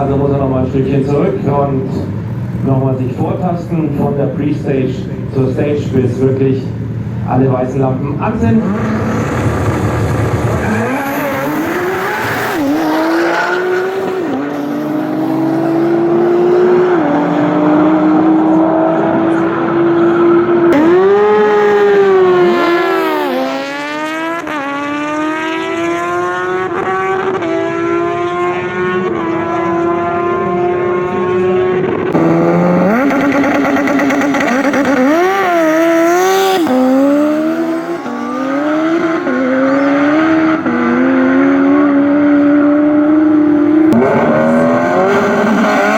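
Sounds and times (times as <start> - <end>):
drag racing car engine revving: 5.0 - 45.9.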